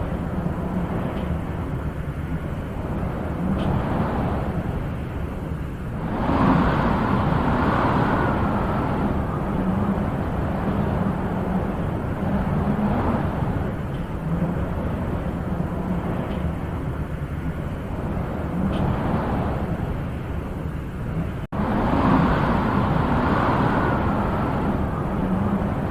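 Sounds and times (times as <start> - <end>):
wind blowing with low rumble: 0.0 - 25.9.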